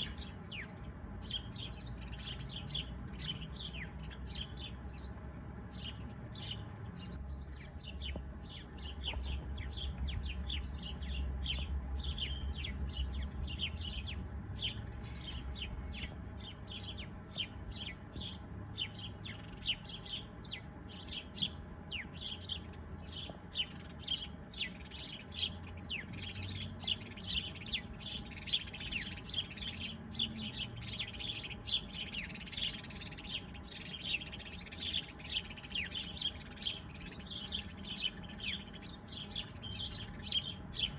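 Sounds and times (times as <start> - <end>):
low steady rumble: 0.0 - 40.9
small birds chirping: 0.0 - 40.9.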